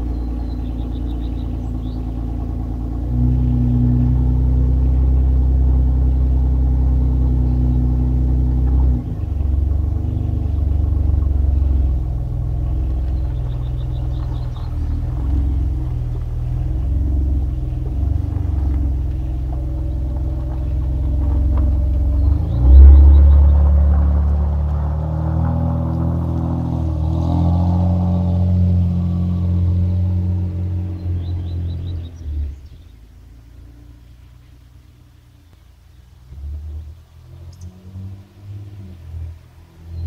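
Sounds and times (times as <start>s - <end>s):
unmuffled car exhaust rumble: 0.0s - 40.0s.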